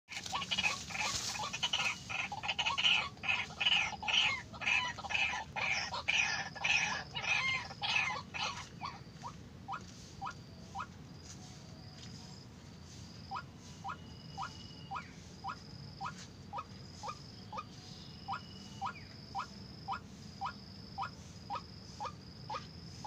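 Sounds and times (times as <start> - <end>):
bird harsh repeated calls: 0.1 - 10.9, 13.2 - 23.0.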